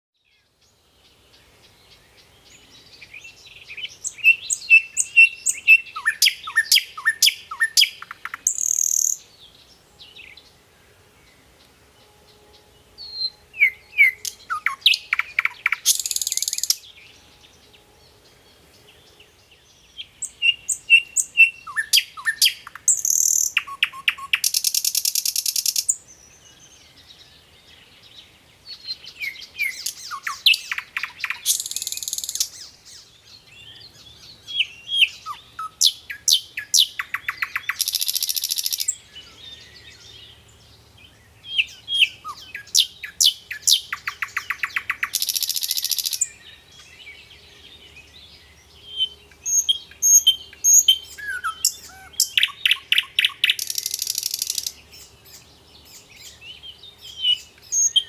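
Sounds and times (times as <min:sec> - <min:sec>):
bird song with chirps and trills: 0:00.2 - 0:58.0.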